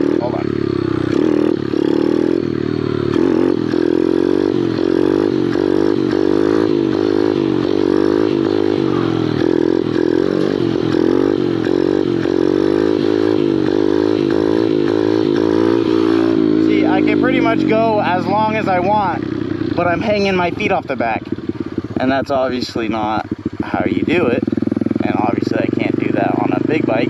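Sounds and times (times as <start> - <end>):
small motorbike engine revving: 0.0 - 27.0.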